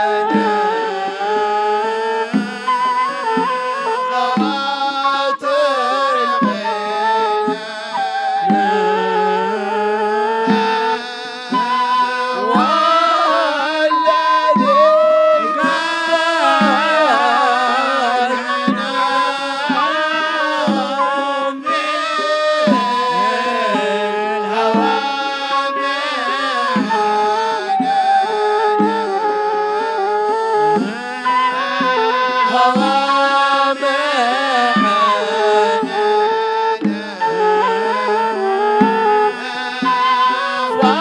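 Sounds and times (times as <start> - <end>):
men singing: 0.0 - 29.3, 30.8 - 41.0
hand drums: 0.0 - 41.0
reed flute melody: 0.0 - 41.0.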